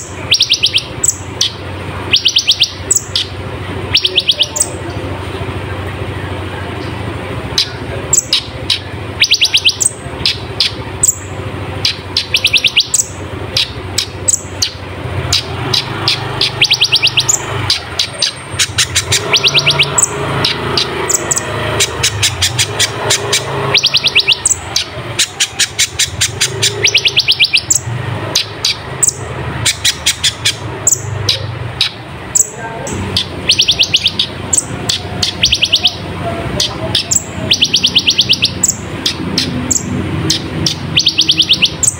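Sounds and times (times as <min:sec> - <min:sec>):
sunbird singing: 0:00.0 - 0:41.9.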